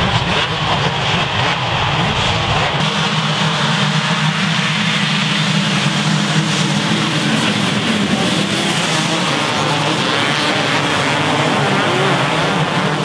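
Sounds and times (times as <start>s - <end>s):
motocross bikes accelerating: 0.0s - 13.0s.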